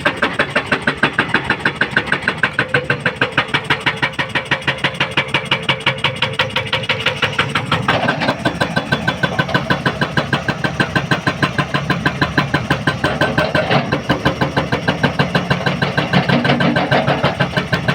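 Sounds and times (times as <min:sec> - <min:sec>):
excavator engine running: 0:00.0 - 0:17.9
hydraulic rock breaker hammering: 0:00.0 - 0:17.9.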